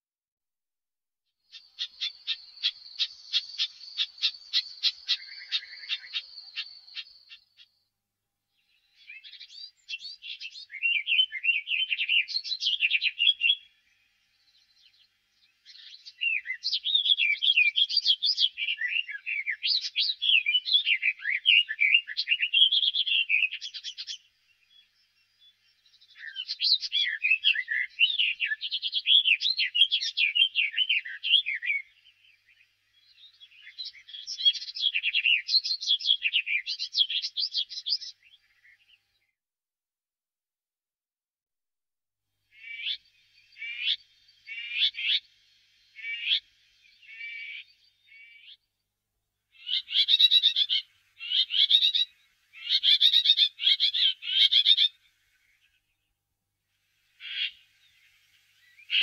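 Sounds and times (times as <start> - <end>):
warbler singing: 1.4 - 7.9, 8.5 - 39.4, 42.5 - 48.9, 49.5 - 56.2, 56.8 - 59.0.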